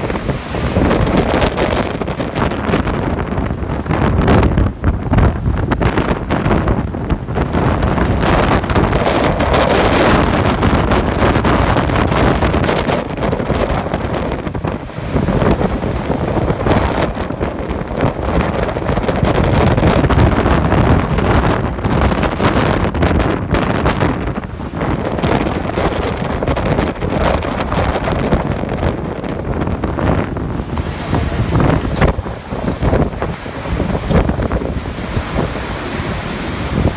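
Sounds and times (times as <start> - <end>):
wind hitting microphone: 0.0 - 36.9.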